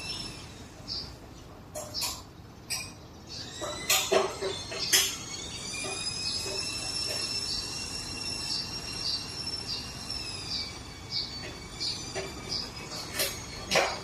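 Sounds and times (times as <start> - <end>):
high-pitched whine: 0.0 - 1.2, 2.7 - 14.0.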